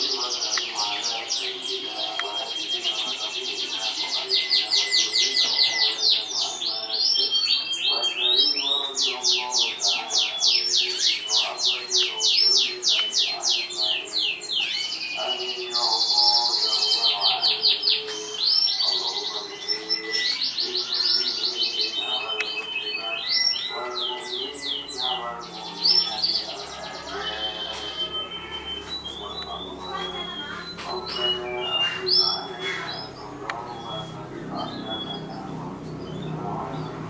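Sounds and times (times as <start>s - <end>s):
canary singing trills: 0.0s - 37.0s.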